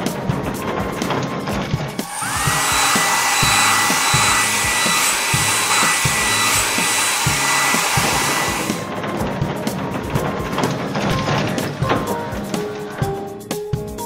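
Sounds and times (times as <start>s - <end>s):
background music beat: 0.0s - 14.0s.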